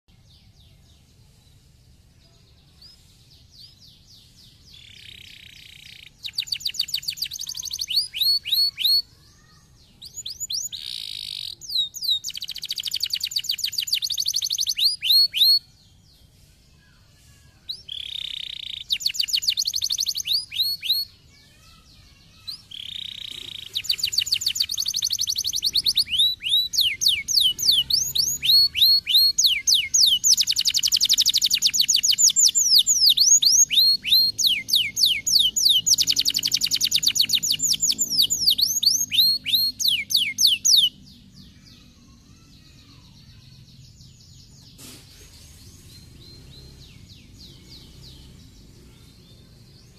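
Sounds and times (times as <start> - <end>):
canary singing trills: 2.3 - 16.3, 17.0 - 49.9.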